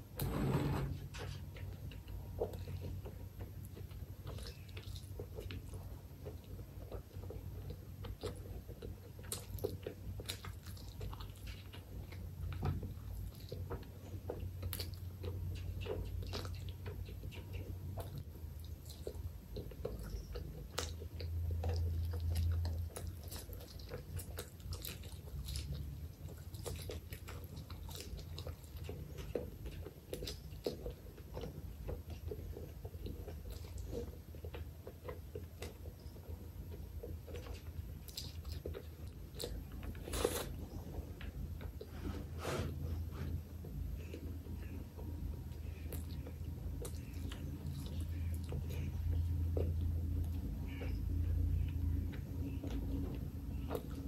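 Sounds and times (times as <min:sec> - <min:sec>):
chewing and wet mouth clicks: 0:01.5 - 0:41.9, 0:43.5 - 0:54.0.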